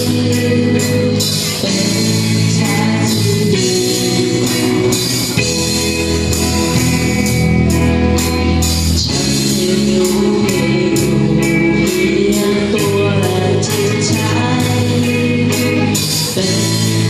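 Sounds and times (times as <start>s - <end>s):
song with steady beat: 0.0s - 17.0s.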